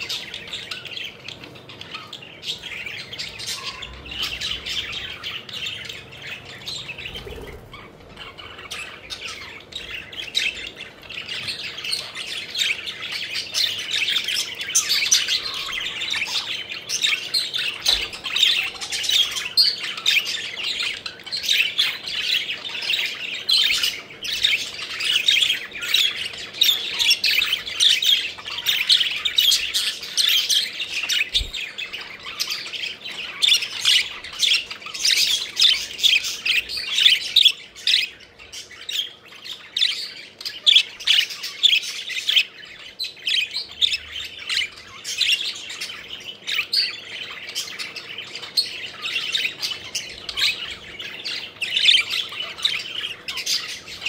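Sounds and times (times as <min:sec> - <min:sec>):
budgerigars chirping and squawking: 0:00.0 - 0:54.0.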